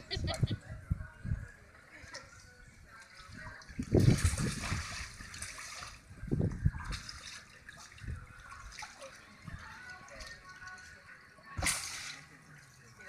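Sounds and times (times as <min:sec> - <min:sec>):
pool water sloshing and splashing: 0:01.6 - 0:13.0.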